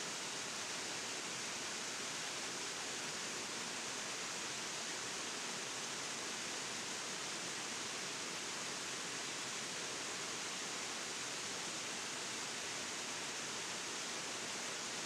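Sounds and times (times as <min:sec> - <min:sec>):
waterfall pouring over rocks: 0:00.0 - 0:15.0.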